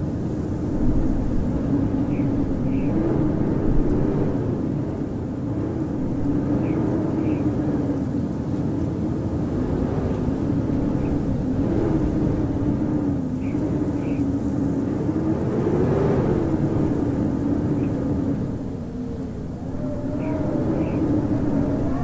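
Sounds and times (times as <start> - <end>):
howling blizzard wind: 0.0 - 22.0.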